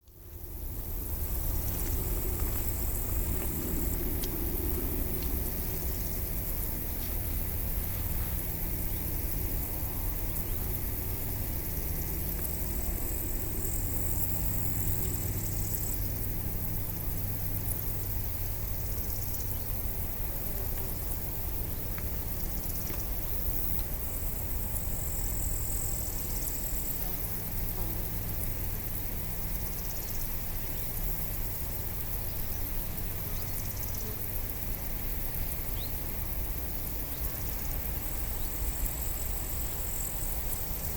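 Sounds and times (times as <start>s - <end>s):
low engine-like hum: 0.0s - 40.9s.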